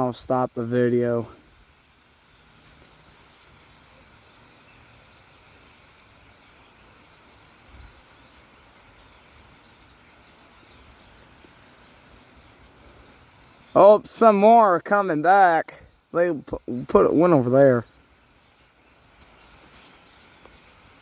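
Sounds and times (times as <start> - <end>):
flock of birds chattering: 2.2 - 21.0.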